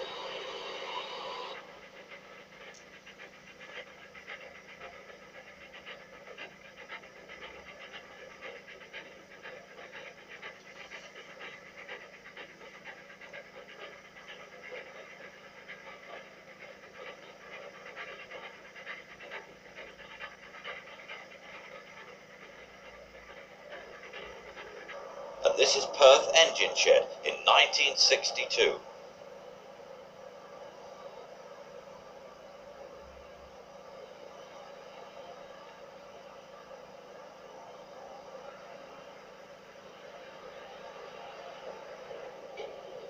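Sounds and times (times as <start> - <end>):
steady steam hiss: 0.0 - 3.5, 7.2 - 43.0
steam locomotive chuffing: 0.0 - 43.0.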